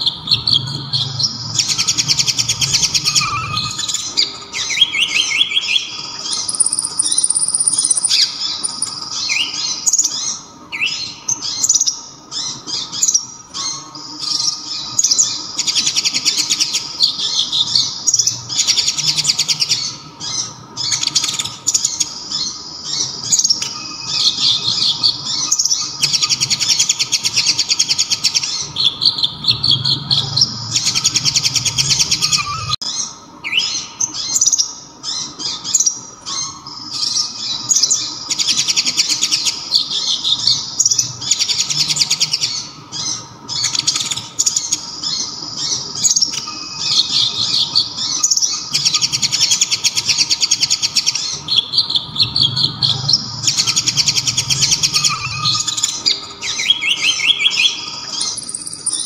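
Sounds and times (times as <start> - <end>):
sunbird trilling chatter: 0.0 - 59.0.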